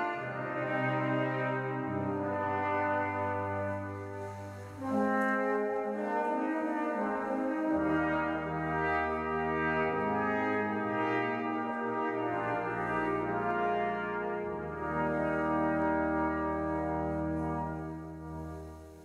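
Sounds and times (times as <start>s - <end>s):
brass ensemble chords: 0.0s - 19.0s.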